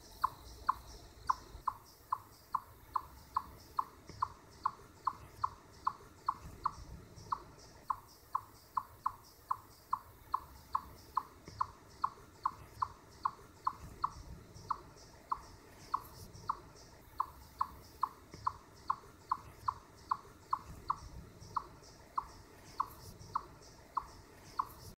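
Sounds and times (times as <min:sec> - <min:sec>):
chipmunk chip call: 0:00.0 - 0:24.9.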